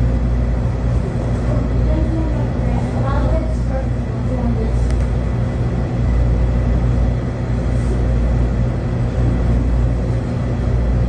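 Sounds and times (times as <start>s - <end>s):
low room rumble and hum: 0.0s - 11.0s.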